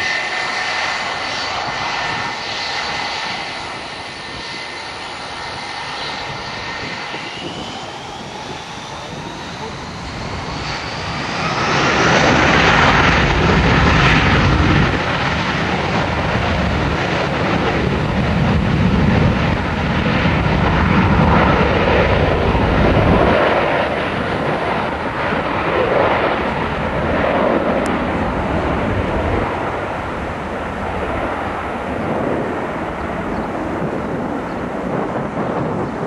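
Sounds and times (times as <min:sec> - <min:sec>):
high engine whine: 0:00.0 - 0:36.0
jet engines at takeoff thrust: 0:00.0 - 0:36.0.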